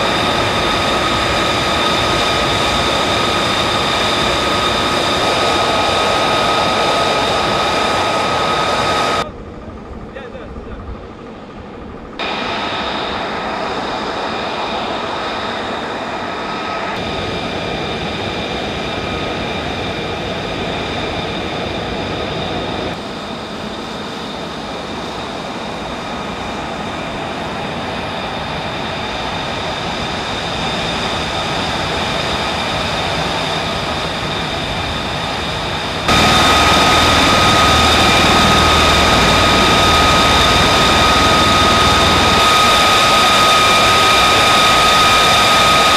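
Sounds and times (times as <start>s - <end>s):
jet engine whining: 0.0s - 45.9s.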